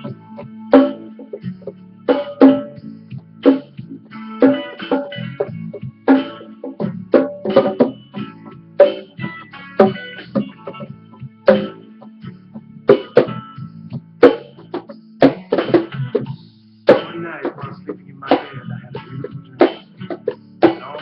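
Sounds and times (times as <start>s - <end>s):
strummed guitar chords: 0.0s - 21.0s.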